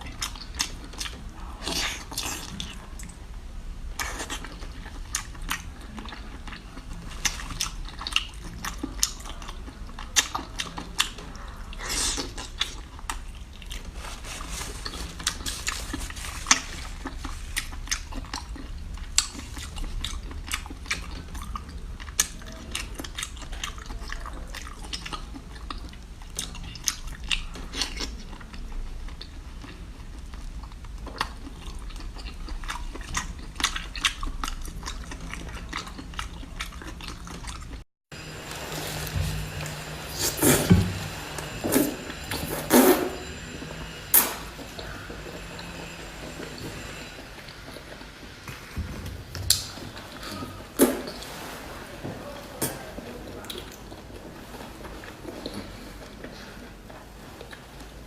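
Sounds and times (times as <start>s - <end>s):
person chewing: 0.0s - 3.3s, 4.0s - 48.5s, 53.3s - 58.0s.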